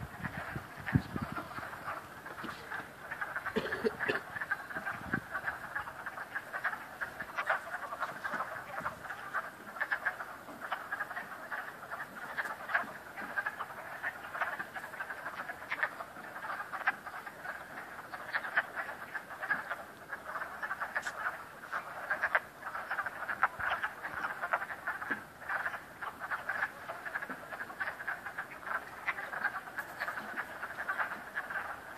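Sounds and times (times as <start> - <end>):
frogs croaking: 0.0 - 31.9.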